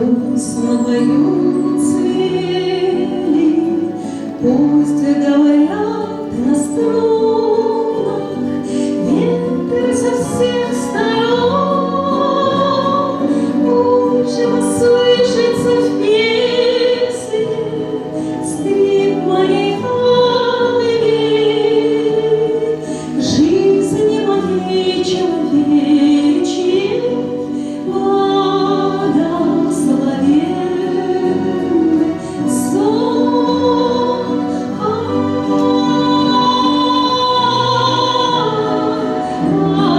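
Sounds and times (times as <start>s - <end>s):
woman singing with vibrato: 0.0s - 39.9s.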